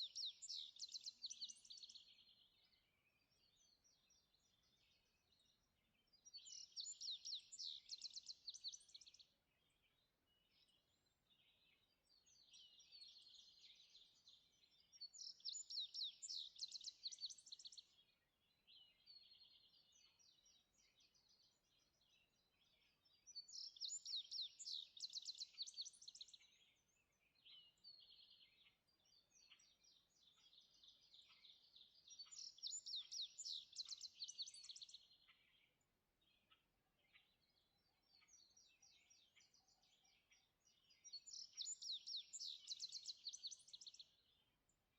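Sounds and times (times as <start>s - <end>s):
faint birdsong: 0.0s - 44.9s
songbird loud song: 0.0s - 44.9s.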